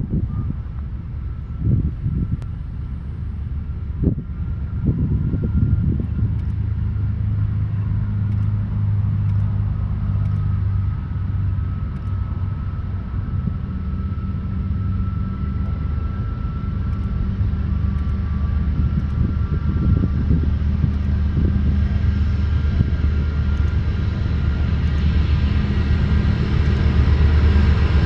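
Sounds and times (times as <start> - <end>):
faint high whine: 0.0 - 28.0
locomotive engine drone: 0.0 - 28.0.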